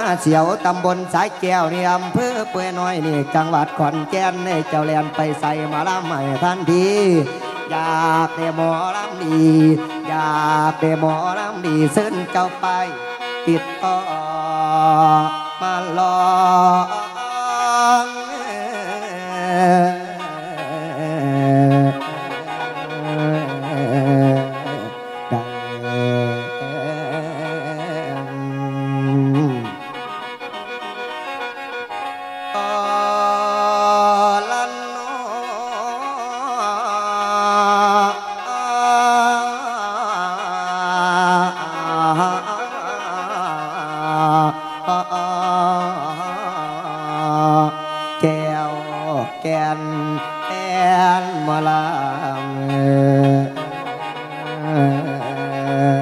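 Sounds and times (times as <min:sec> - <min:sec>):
person singing ornamented melody: 0:00.0 - 0:56.0.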